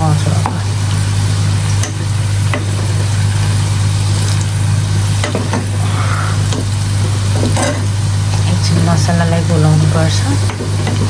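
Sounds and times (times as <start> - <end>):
garlic sizzling in hot oil: 0.0 - 11.0
steady low hum: 0.0 - 11.0.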